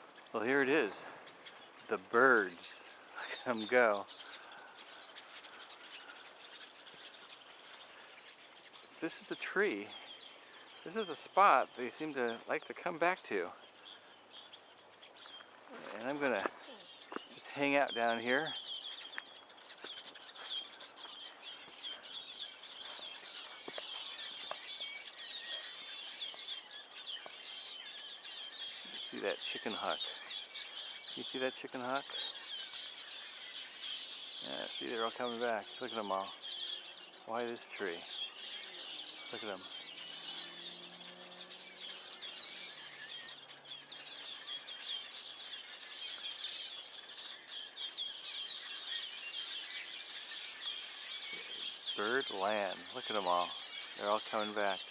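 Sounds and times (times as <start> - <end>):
flock of songbirds chattering: 0.0 - 54.9.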